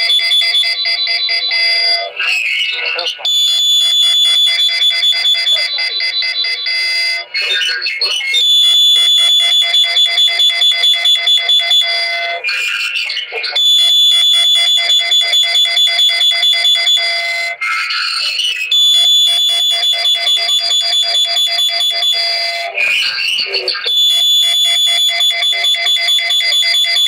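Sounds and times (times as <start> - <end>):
rapid electronic beeping: 0.0 - 27.0.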